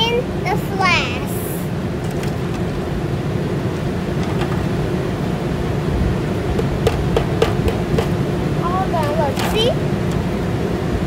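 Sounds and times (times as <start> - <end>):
faint constant hum: 0.0 - 11.0
low urban rumble: 0.0 - 11.0.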